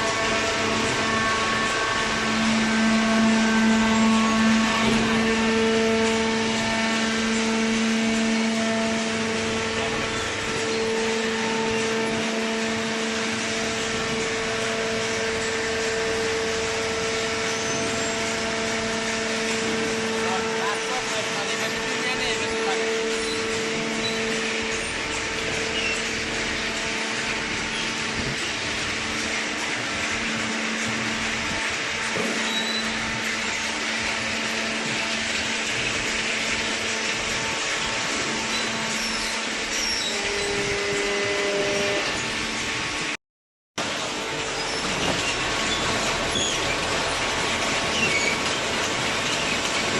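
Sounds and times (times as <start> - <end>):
electric motor and pump whirring: 0.0 - 43.2, 43.8 - 49.9
hydraulic power unit humming: 0.0 - 43.2, 43.8 - 49.9.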